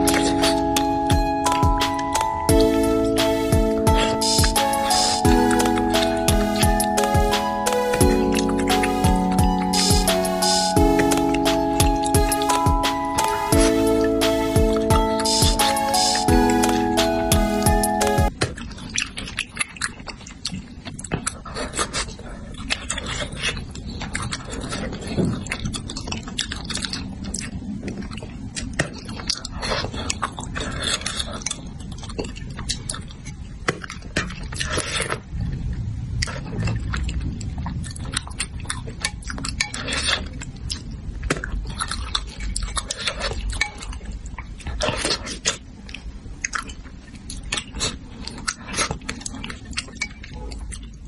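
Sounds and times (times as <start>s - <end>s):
person chewing food: 0.0s - 51.0s
wet eating clicks and smacks: 4.1s - 12.6s, 18.3s - 51.0s.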